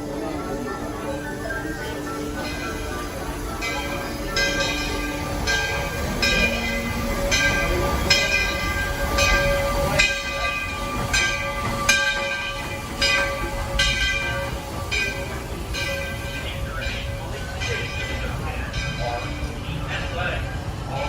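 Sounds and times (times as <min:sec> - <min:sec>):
locomotive bell ringing: 0:00.0 - 0:21.0
train running rumble: 0:00.0 - 0:21.0.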